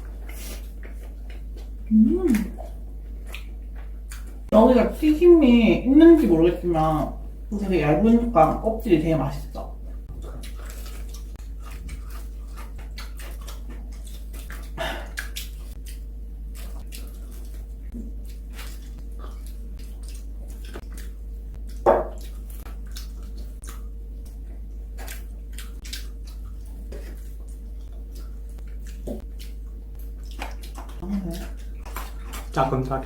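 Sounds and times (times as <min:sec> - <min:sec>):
chewing and smacking on food: 0:00.0 - 0:33.0
steady hum: 0:00.0 - 0:33.0.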